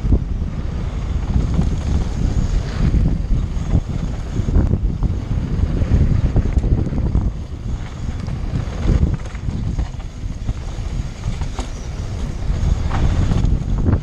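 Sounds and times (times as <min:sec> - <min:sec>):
bike clicks and rattles: 0:00.0 - 0:14.0
wind buffeting microphone: 0:00.0 - 0:14.0.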